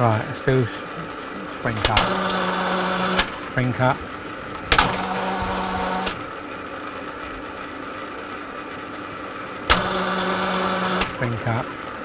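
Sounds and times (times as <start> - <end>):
metal lathe running hum: 0.0 - 12.0.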